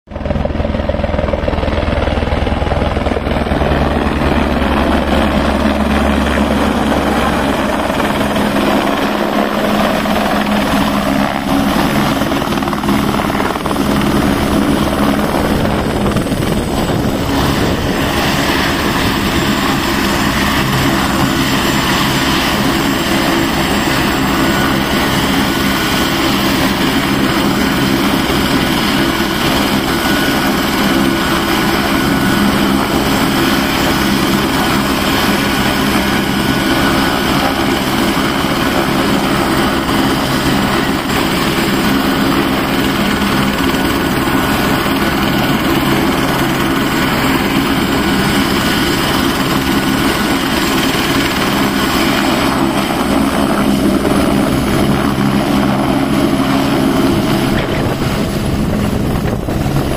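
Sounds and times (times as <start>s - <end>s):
helicopter rotor beating: 0.1s - 59.9s
turbine whine: 2.2s - 59.9s.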